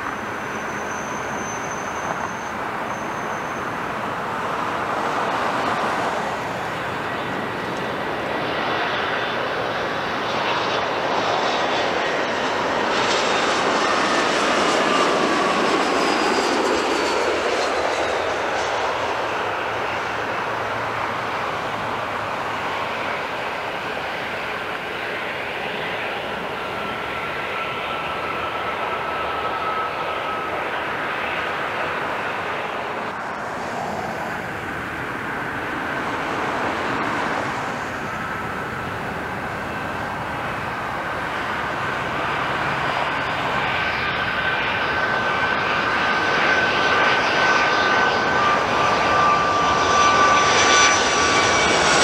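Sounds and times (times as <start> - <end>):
jet engines roaring with whine: 0.0 - 52.0.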